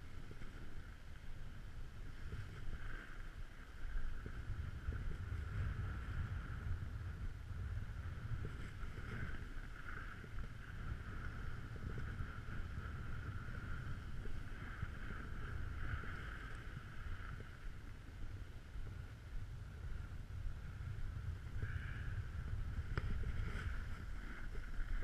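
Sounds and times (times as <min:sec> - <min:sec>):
wind buffeting microphone: 0:00.0 - 0:25.0
snowboard sliding on snow: 0:02.0 - 0:17.8, 0:18.8 - 0:25.0.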